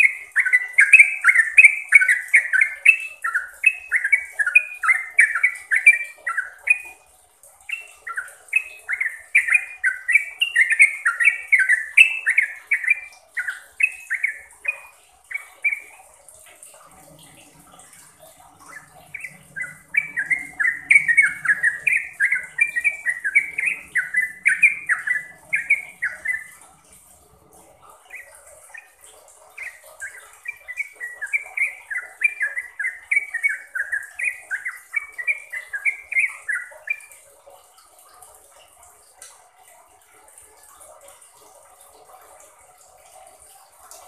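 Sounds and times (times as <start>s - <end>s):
bulbul singing: 0.0s - 7.0s, 7.6s - 37.2s.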